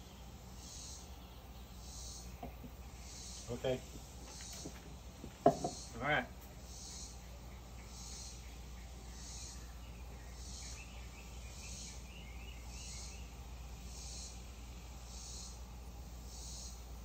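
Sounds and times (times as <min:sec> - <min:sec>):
insects pulsing trill: 0:00.0 - 0:17.0.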